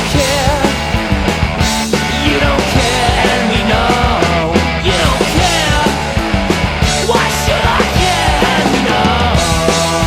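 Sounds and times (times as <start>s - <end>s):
bass guitar: 0.0s - 10.0s
distorted electric guitar: 0.0s - 10.0s
drum hits: 0.6s - 10.0s.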